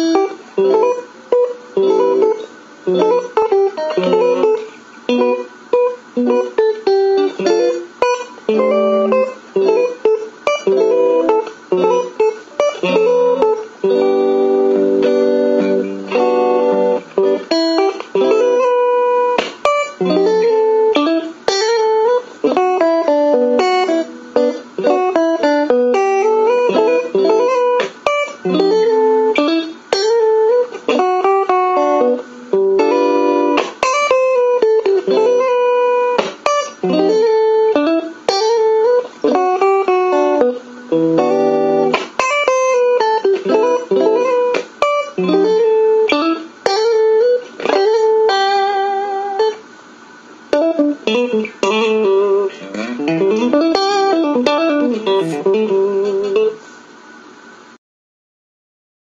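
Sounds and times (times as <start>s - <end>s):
clean electric guitar: 0.0s - 57.2s.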